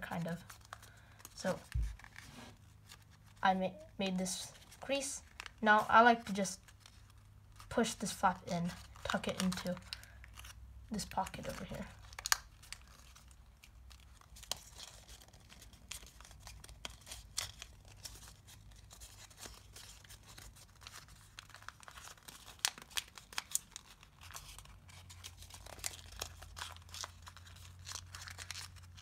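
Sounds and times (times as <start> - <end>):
paper crinkling and crackling: 0.0 - 29.0.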